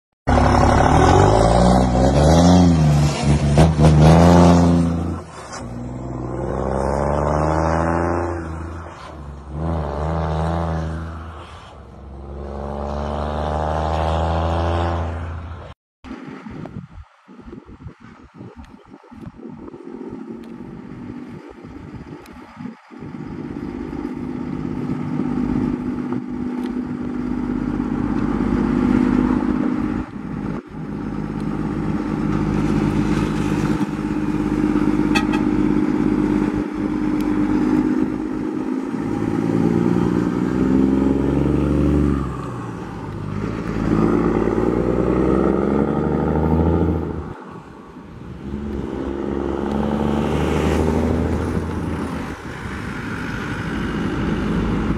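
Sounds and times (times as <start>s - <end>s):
truck diesel engine accelerating: 0.3s - 54.9s.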